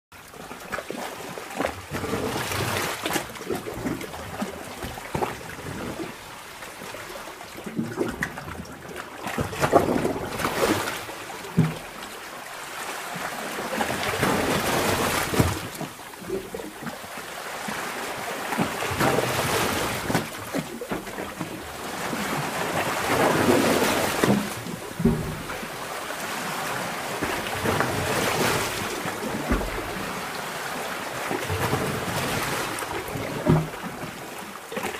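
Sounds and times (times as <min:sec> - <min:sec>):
sea water surging underwater: 0:00.1 - 0:34.9.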